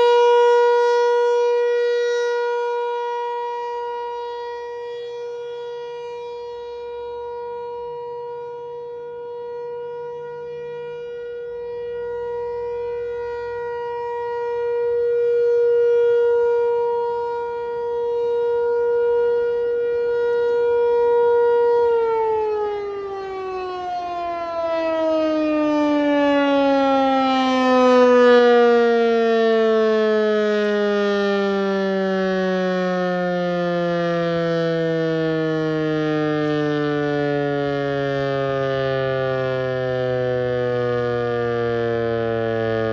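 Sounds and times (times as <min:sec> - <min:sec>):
tornado siren wailing: 0:00.0 - 0:42.9.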